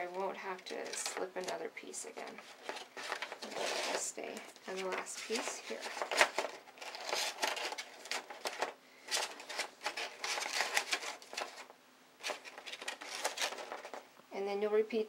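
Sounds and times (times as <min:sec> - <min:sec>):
stiff paper sheets rustling: 0:00.0 - 0:14.0.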